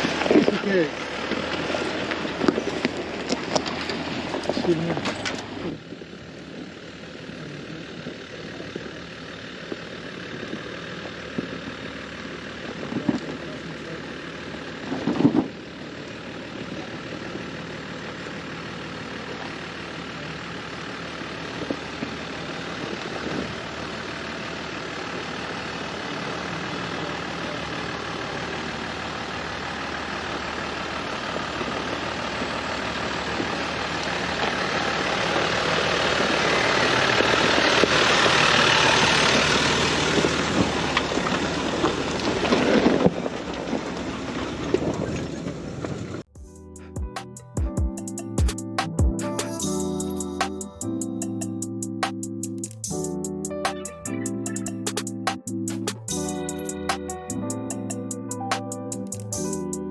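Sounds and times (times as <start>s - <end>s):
engine running at low revs: 0.0s - 59.9s.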